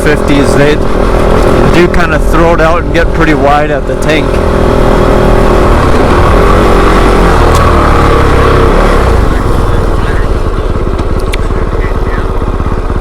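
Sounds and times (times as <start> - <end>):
rush of noise: 0.0 - 12.8
motorcycle engine running: 0.0 - 13.0.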